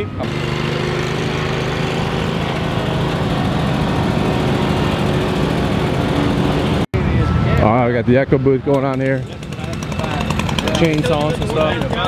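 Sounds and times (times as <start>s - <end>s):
lawn mower engine running: 0.0s - 6.9s, 8.7s - 12.0s.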